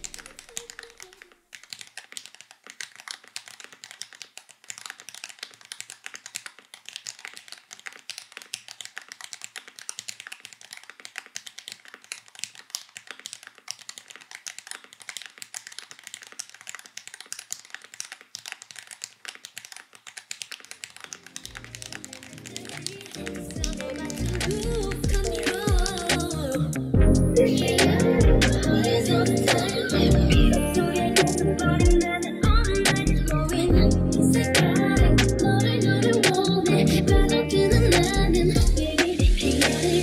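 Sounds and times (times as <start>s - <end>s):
mechanical keyboard typing: 0.0s - 40.0s.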